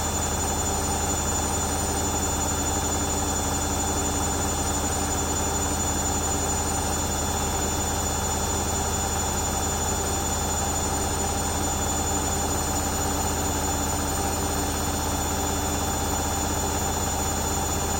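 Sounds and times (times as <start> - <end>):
washing machine spinning: 0.0 - 17.9.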